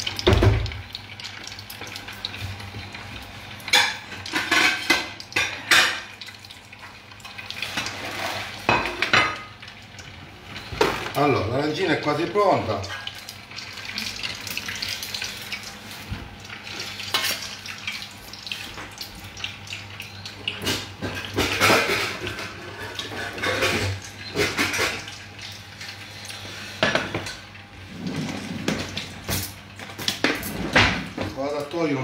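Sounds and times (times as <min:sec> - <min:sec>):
oil bubbling in deep fryer: 0:00.0 - 0:32.0.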